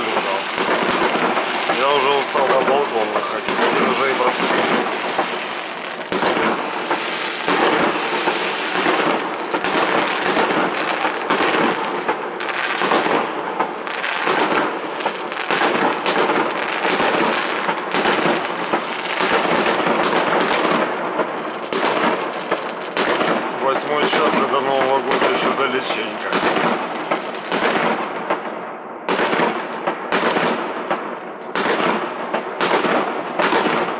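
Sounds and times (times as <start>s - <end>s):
fireworks bangs: 0.0s - 33.9s.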